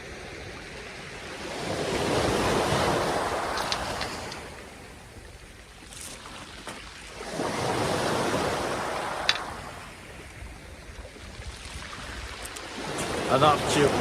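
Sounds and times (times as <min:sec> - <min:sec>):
sea waves washing on shore: 0:00.0 - 0:14.0.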